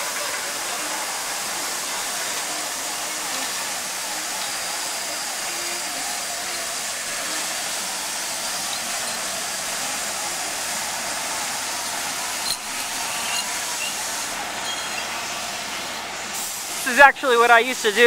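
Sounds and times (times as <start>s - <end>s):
crane running with hiss: 0.0s - 18.0s.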